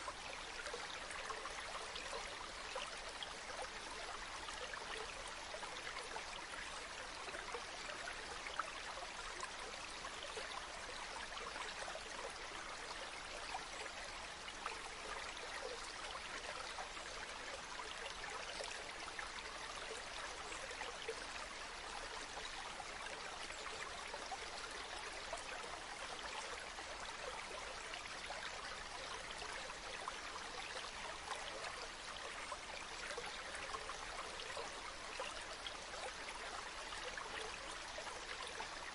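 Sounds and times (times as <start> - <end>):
river stream flowing: 0.0 - 38.9.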